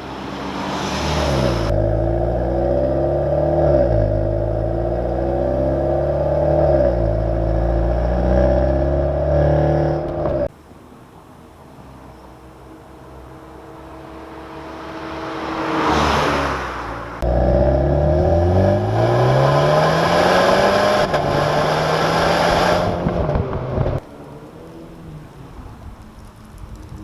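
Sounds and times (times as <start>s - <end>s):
car engine revving: 0.0s - 10.5s, 13.2s - 25.5s.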